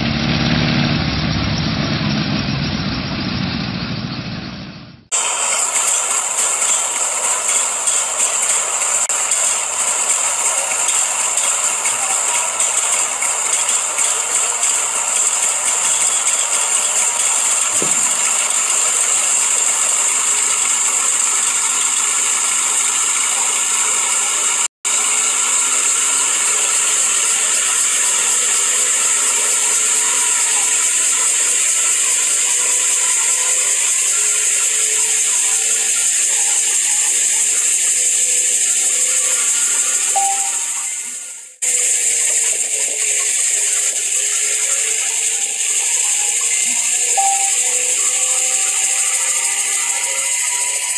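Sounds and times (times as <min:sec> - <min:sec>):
small engine rattling hiss: 0:05.1 - 0:50.9.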